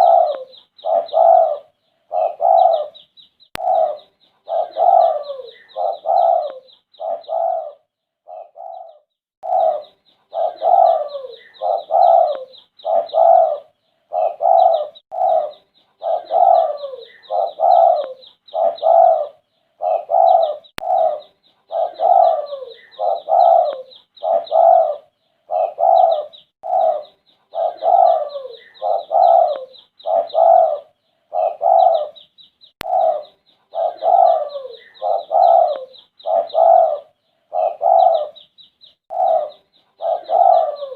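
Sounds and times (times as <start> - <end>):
dove cooing: 0.0 - 3.0, 3.6 - 32.2, 32.8 - 38.5, 39.1 - 40.9
high chirping: 0.0 - 40.9.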